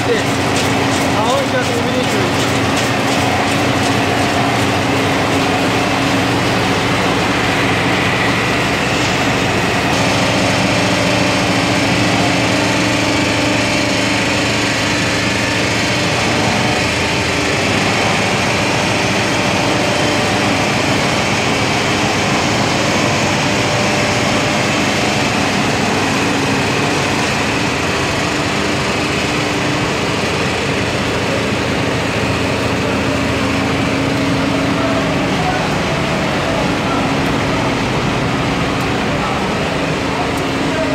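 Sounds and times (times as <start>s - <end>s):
machinery humming: 0.0s - 40.9s.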